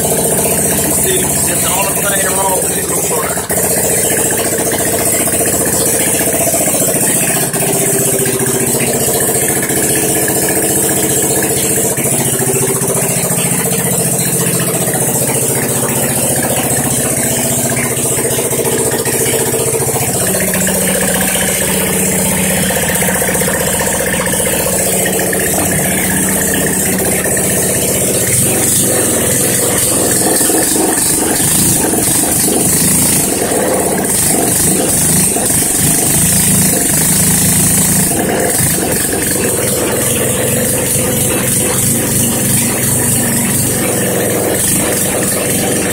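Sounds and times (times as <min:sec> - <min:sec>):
go-kart engine idling: 0:00.0 - 0:45.9.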